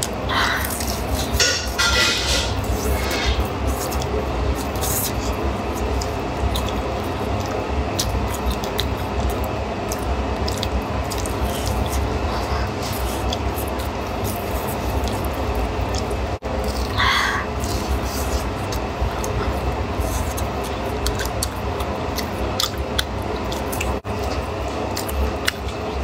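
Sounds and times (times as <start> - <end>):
chewing crisp flatbread: 0.0 - 26.0
low background hum: 0.0 - 26.0.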